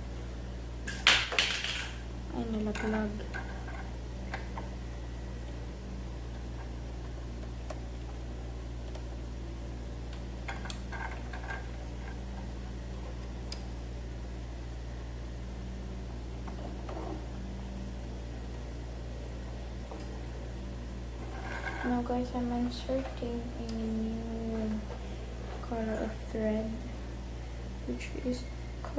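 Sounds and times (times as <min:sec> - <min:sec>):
electric fan humming: 0:00.0 - 0:28.9.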